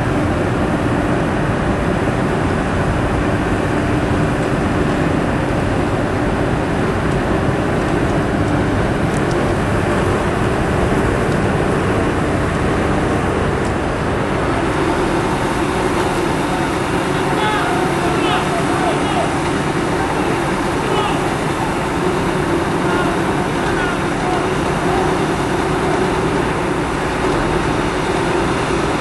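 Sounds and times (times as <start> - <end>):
fire pump engine running: 0.0 - 29.0
water jet rushing: 0.0 - 29.0.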